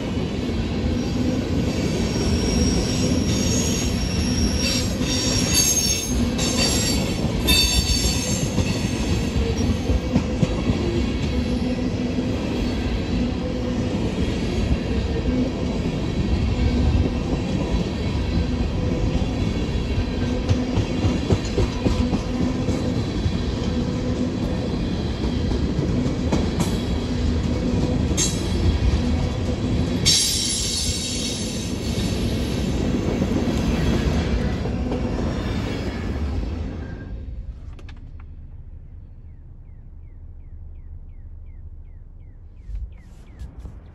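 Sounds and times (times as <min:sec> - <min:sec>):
freight train wheels rumbling: 0:00.0 - 0:43.9
wheels screeching on rail: 0:00.1 - 0:37.5.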